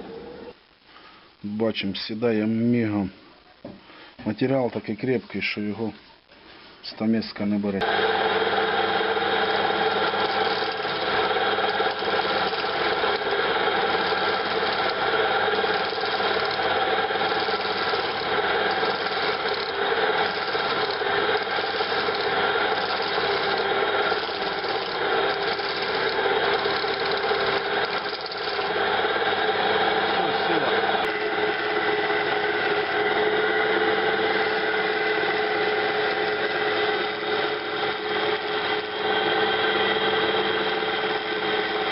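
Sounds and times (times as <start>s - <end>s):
wood lathe motor hum: 7.8s - 41.9s.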